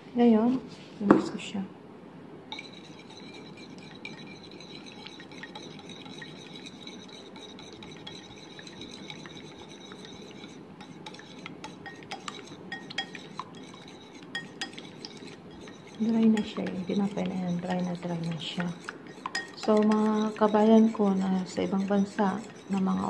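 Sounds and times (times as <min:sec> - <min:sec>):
utensil clinking in ceramic bowl: 0:02.5 - 0:23.0.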